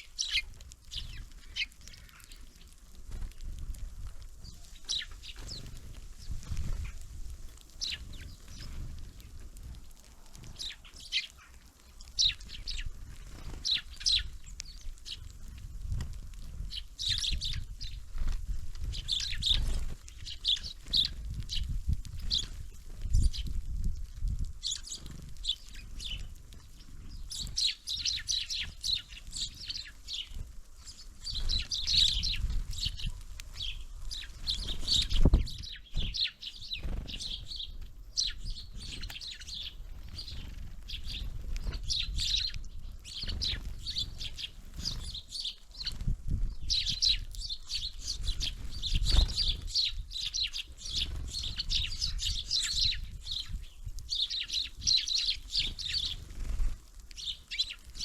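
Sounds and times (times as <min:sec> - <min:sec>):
small birds chirping and calling: 0:00.0 - 0:58.0
wings fluttering: 0:00.0 - 0:58.0.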